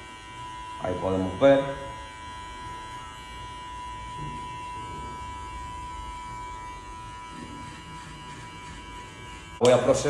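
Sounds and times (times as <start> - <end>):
electric hair clipper whining: 0.0 - 10.0.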